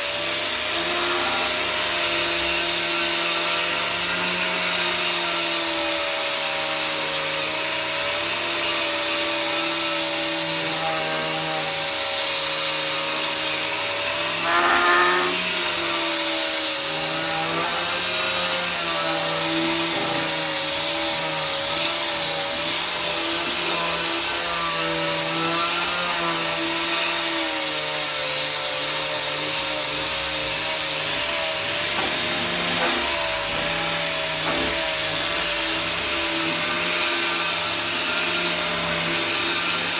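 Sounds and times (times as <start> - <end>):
electric sander sanding wood: 0.0 - 39.9.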